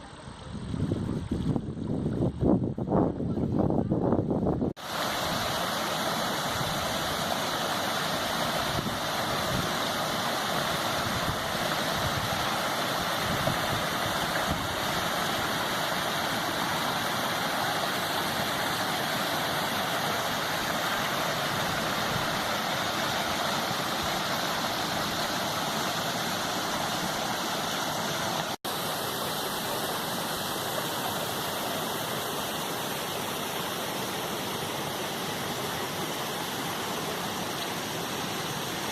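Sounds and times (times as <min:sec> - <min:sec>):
waterfall roaring: 0:04.8 - 0:38.9.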